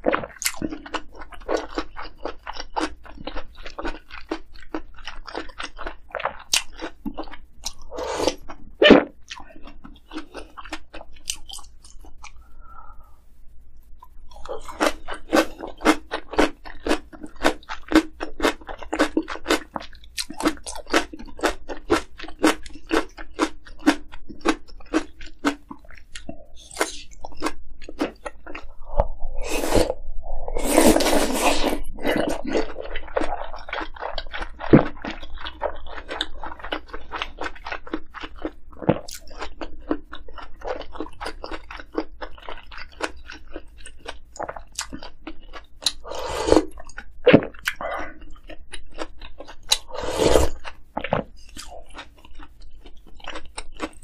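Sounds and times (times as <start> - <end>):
chewing crunchy food: 0.0 - 12.5, 14.0 - 30.0, 30.6 - 54.0.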